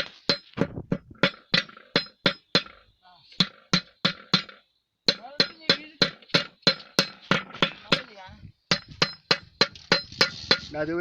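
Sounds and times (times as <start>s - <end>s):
hammer striking steel: 0.0s - 0.6s, 1.2s - 2.8s, 3.4s - 10.7s.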